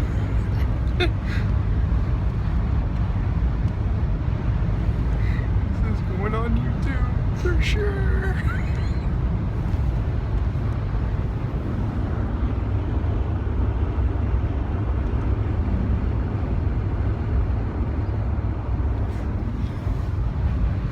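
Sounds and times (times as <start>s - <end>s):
steady low rumble with hiss: 0.0s - 20.9s.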